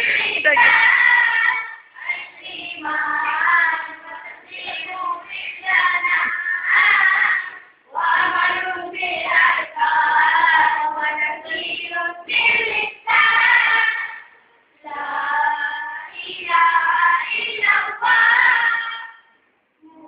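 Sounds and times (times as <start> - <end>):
boys singing devotional song: 0.0 - 20.0.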